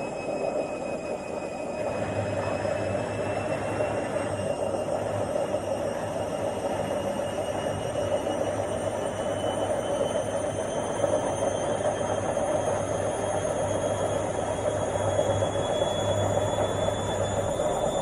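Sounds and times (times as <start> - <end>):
faint high whine: 0.0 - 18.0
washing machine spinning: 0.0 - 18.0.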